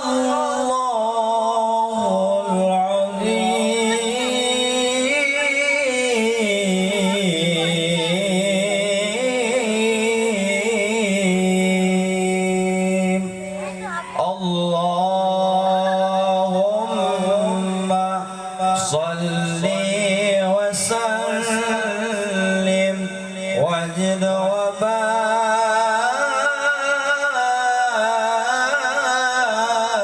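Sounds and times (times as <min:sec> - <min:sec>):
person chanting melodically: 0:00.0 - 0:30.0.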